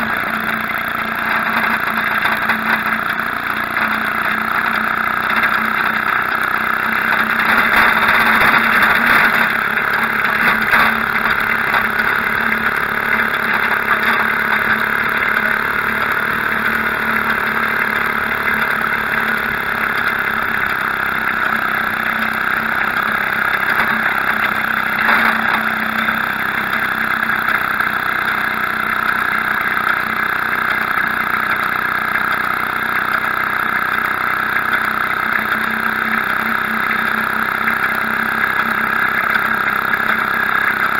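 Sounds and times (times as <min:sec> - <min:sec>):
two-stroke engine running: 0:00.0 - 0:40.9.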